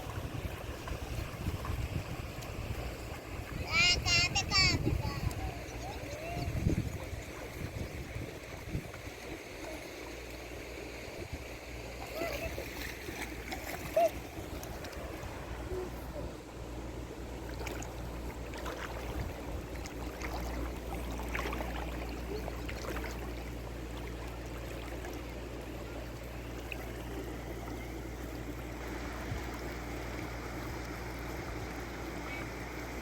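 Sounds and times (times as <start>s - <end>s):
flowing water: 0.0s - 33.0s.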